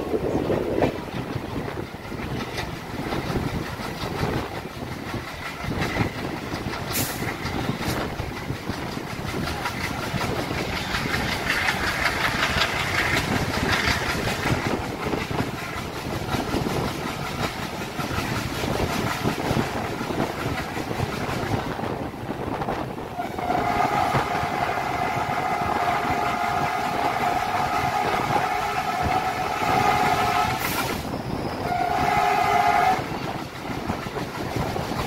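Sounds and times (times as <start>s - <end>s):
diesel locomotive engine chugging: 0.0s - 35.0s
train wheels on rails: 0.0s - 35.0s.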